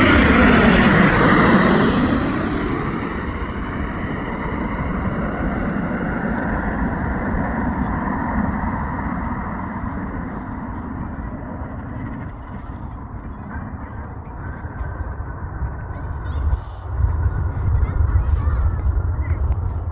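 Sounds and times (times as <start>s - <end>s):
jet engines rumbling: 0.0s - 19.9s.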